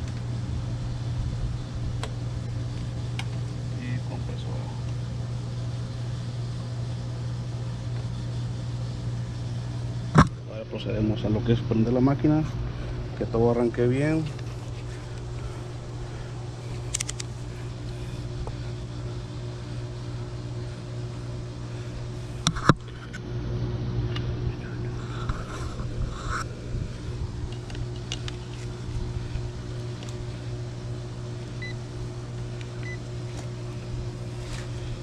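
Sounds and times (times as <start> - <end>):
air conditioner compressor and fan running: 0.0 - 35.0
electrical hum: 0.0 - 35.0.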